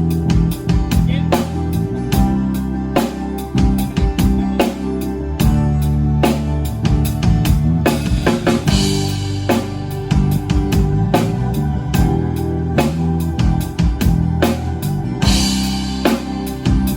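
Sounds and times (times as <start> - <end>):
bass guitar notes: 0.0 - 16.9
drum kit beat: 0.0 - 16.9
electric guitar notes: 0.0 - 16.9.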